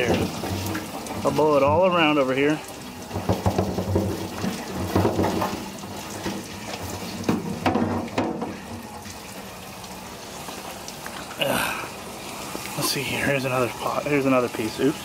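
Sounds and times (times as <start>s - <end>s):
water splashing onto concrete: 0.0s - 15.0s.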